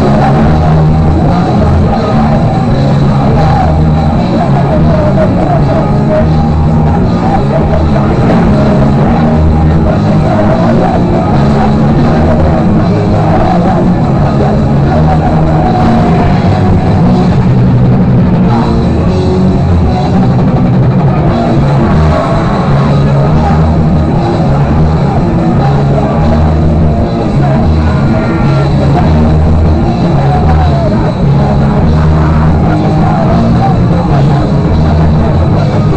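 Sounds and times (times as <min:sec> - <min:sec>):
rock band playing live: 0:00.0 - 0:35.9.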